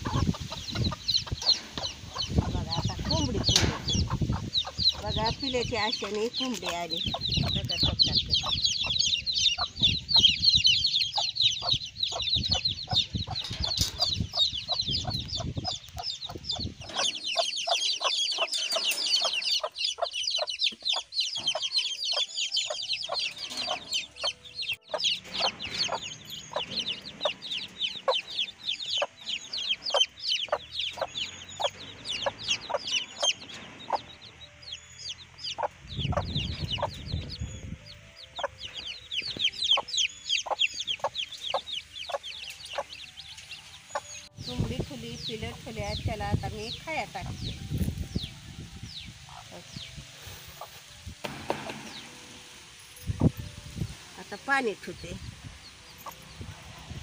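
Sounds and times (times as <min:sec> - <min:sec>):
hen clucking: 0:00.0 - 0:37.4, 0:38.2 - 0:52.2
chicks peeping: 0:00.0 - 0:57.0.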